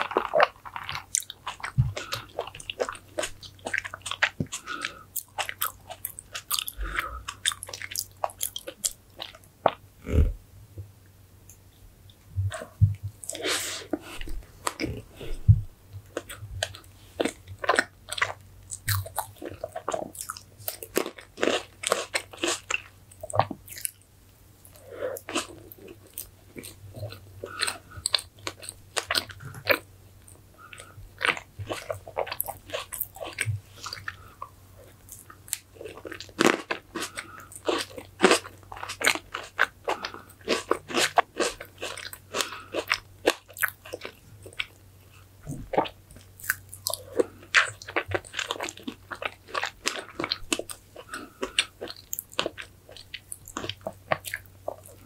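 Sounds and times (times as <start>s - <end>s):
chewing with mouth clicks: 0.0s - 9.8s, 12.1s - 24.0s, 24.6s - 55.0s
faint low hum: 0.0s - 55.0s.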